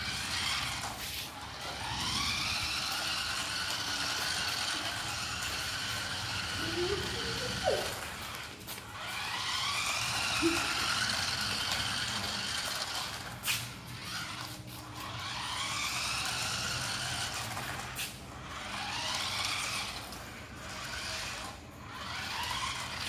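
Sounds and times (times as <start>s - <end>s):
toy truck motor whining: 0.0s - 23.0s.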